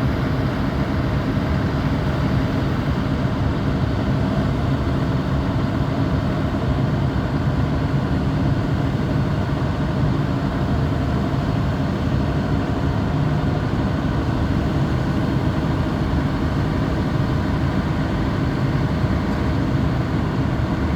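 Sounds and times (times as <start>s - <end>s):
heavy engine running: 0.0s - 20.9s.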